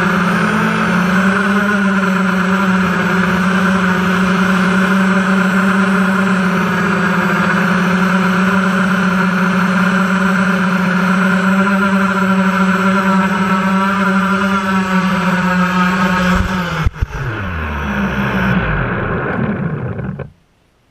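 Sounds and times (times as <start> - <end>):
drone propellers buzzing: 0.0 - 20.4.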